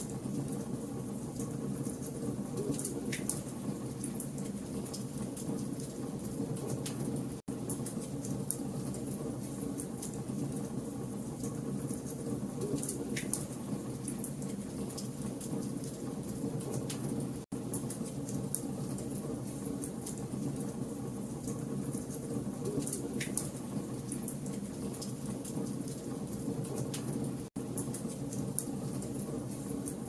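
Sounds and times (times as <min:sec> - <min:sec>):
campfire flames rumbling: 0:00.0 - 0:30.0
fire crackling and popping: 0:00.1 - 0:30.0.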